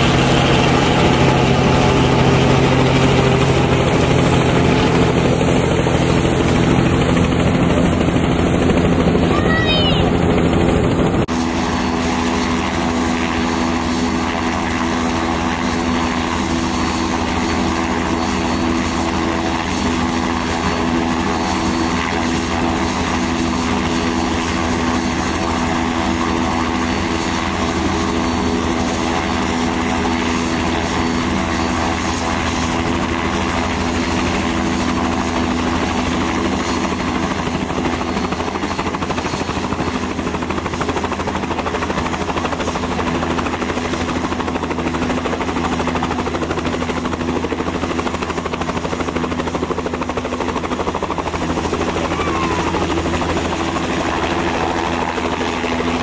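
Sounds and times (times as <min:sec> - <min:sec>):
helicopter engine and rotor: 0:00.0 - 0:56.0.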